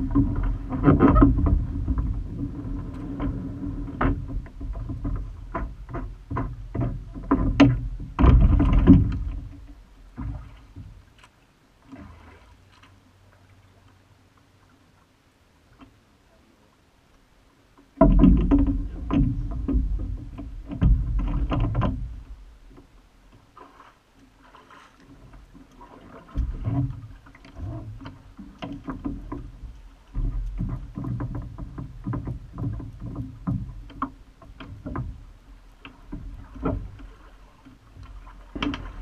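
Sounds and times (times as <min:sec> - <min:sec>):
boat knocks and bumps: 0:00.0 - 0:11.3, 0:17.7 - 0:39.0
water splashing against boat hull: 0:00.0 - 0:16.0, 0:17.6 - 0:39.0.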